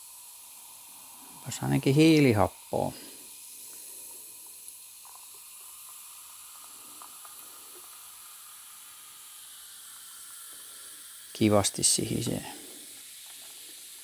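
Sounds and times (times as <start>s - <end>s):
drink fizzing over ice: 0.0s - 14.0s.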